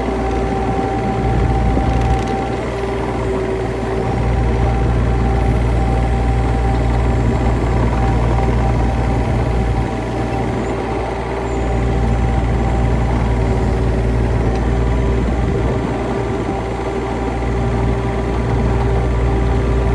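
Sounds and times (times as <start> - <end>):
large engine running: 0.0 - 19.9.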